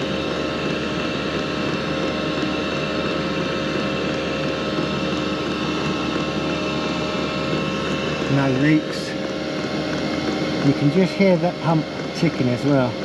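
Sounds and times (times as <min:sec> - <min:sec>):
diesel air heater humming: 0:00.0 - 0:13.0.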